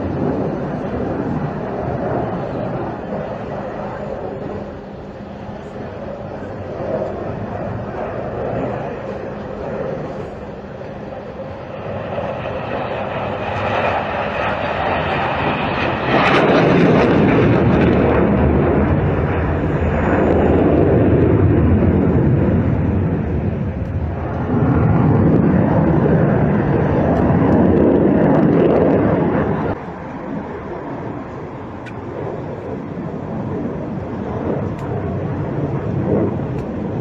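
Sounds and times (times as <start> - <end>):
jet engine roaring: 0.0 - 37.0.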